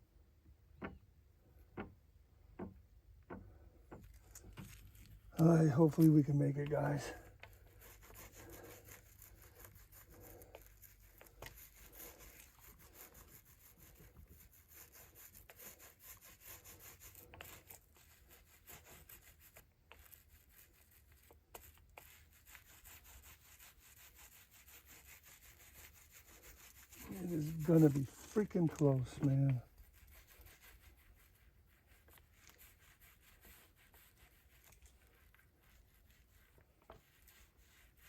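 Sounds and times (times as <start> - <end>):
brush rubbing on cloth: 3.3 - 38.0.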